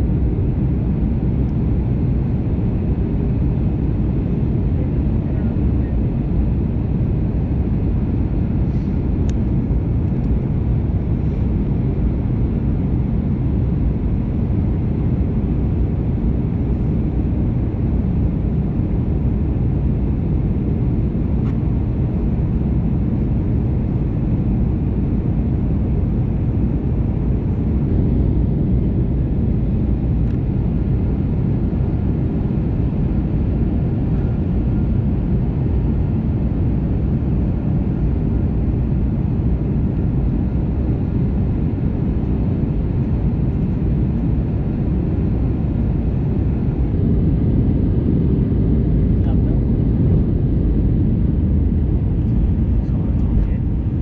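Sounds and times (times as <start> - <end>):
aircraft cabin low roar: 0.0 - 54.0.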